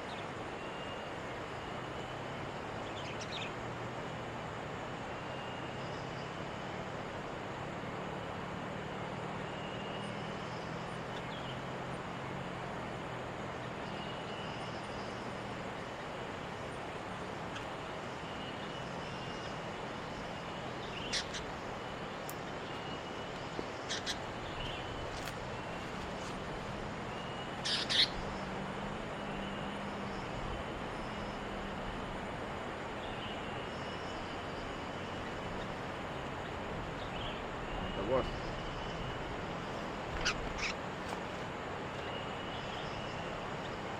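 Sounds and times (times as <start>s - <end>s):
birds chirping: 0.0s - 3.7s, 4.9s - 43.9s.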